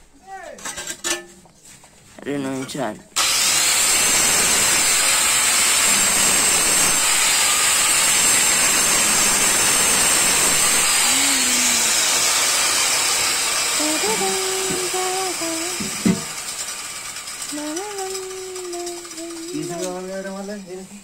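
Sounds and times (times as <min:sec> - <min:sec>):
tile cutter grinding: 0:03.2 - 0:20.9.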